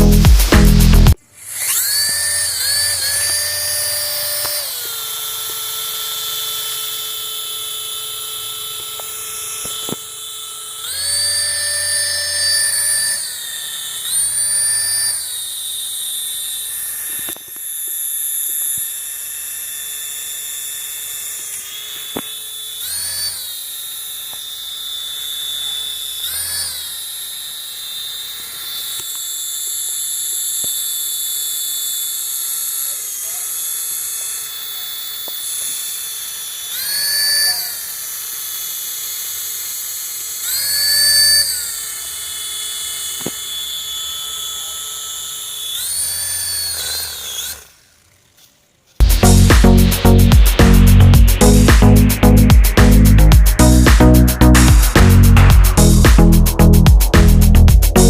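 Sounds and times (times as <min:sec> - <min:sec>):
toy drone propellers whining: 0:00.0 - 0:58.0.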